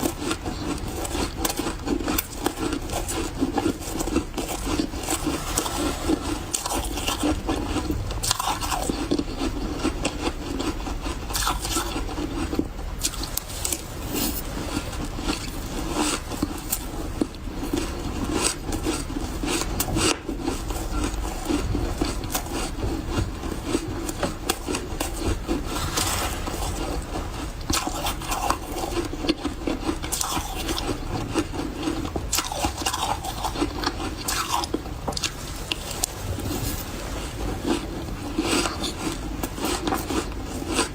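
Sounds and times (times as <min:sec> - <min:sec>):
chewing crunchy ice: 0:00.0 - 0:40.9.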